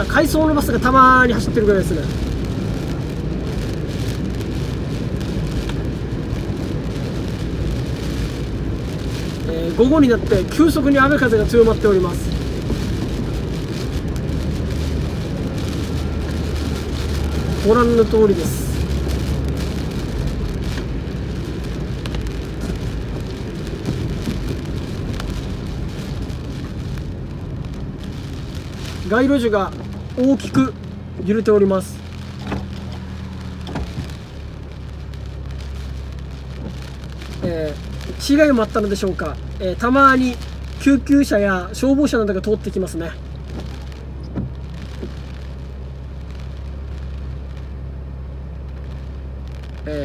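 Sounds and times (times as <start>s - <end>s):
rain on car body: 0.0s - 50.0s
tyres on wet road: 0.0s - 50.0s.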